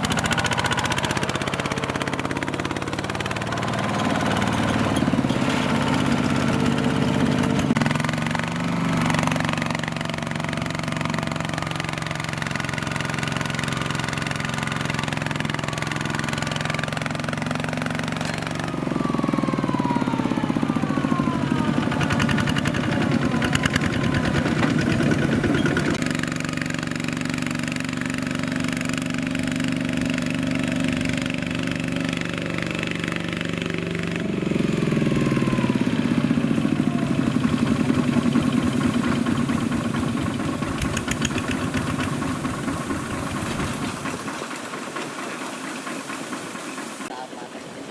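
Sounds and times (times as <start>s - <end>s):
diesel tractor engine running: 0.0s - 47.5s.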